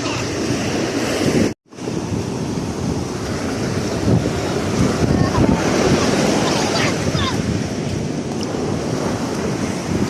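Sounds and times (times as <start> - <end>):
sea surf washing up: 0.0 - 10.0
wind buffeting microphone: 0.0 - 10.0.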